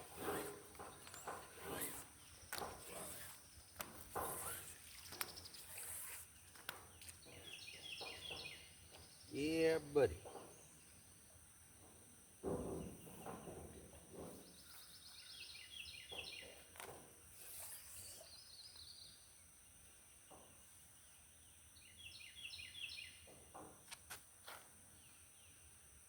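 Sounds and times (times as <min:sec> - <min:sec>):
high insect hiss: 0:00.0 - 0:26.0
songbird singing: 0:00.4 - 0:12.0, 0:12.6 - 0:23.5.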